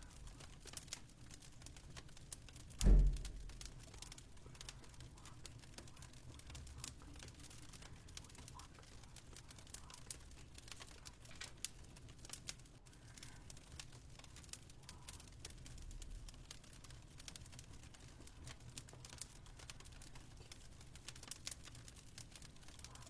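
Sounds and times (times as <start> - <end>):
fireplace crackling: 0.0 - 23.0.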